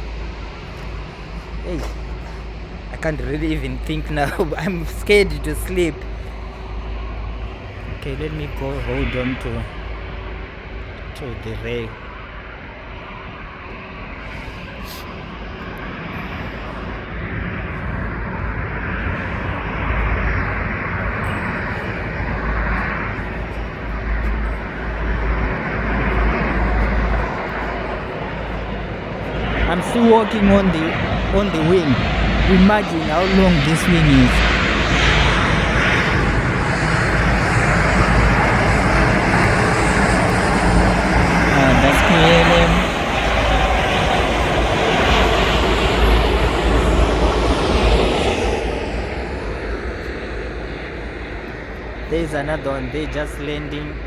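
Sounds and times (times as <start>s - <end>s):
jet engine rushing: 0.0s - 54.0s.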